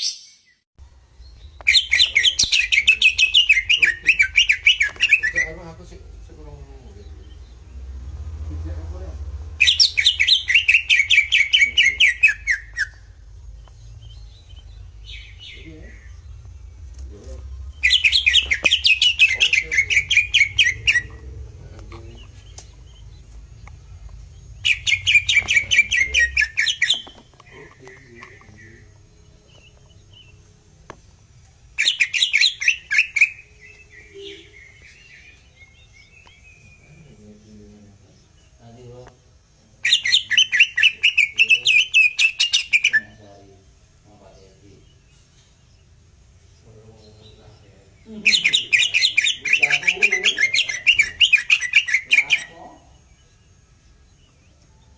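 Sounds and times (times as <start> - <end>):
songbird chirping: 0.0 - 54.9
bird twittering: 1.2 - 54.9.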